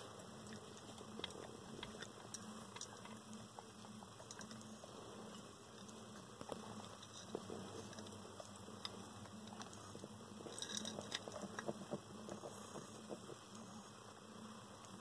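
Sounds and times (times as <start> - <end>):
crab shells clicking and scraping: 0.0 - 13.6
low steady hum: 0.0 - 15.0.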